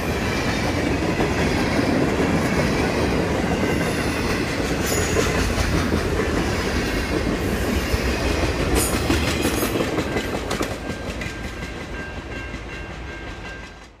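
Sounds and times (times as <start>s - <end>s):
freight train wheels clacking: 0.0s - 14.0s.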